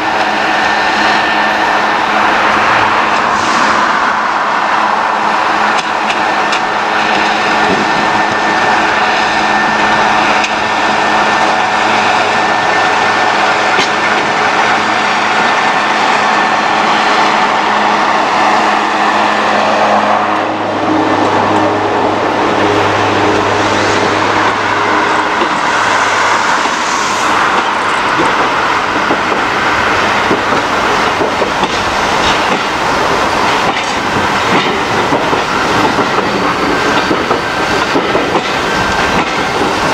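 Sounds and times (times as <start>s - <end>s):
coaches rolling on rails: 0.0s - 39.9s
diesel locomotive engine humming: 0.0s - 39.9s.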